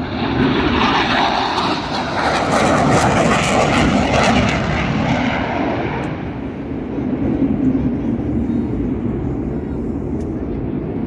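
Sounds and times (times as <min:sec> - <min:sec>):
jet aircraft passing overhead: 0:00.0 - 0:11.0.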